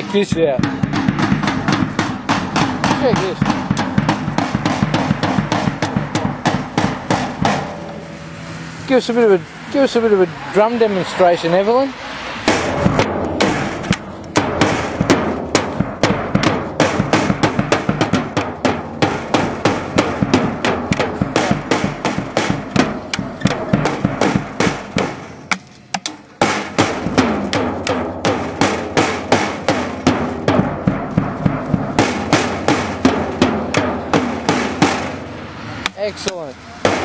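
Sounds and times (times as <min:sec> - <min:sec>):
drum kit strikes: 0:00.0 - 0:08.9, 0:12.5 - 0:25.4, 0:26.1 - 0:35.3.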